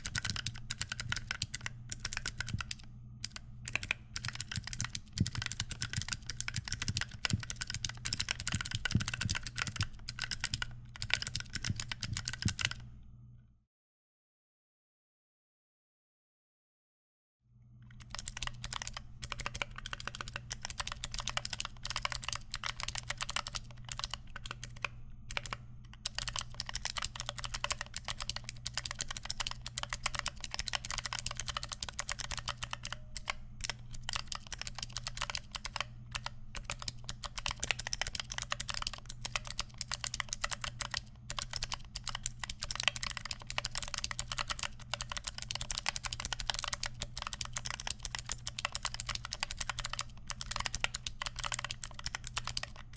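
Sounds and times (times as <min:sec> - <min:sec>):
mechanical keyboard typing: 0:00.0 - 0:12.9, 0:17.9 - 0:52.9.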